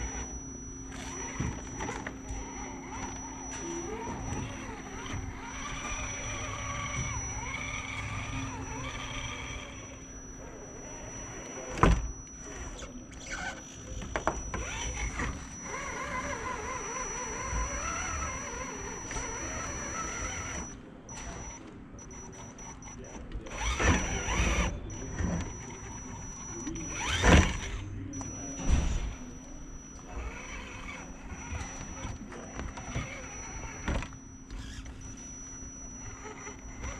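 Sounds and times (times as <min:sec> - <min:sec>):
toy truck motor whining: 0:00.0 - 0:36.9.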